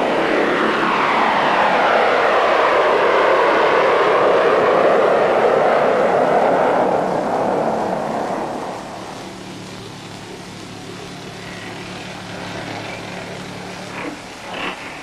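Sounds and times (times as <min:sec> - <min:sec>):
jet engines at takeoff power: 0:00.0 - 0:15.0.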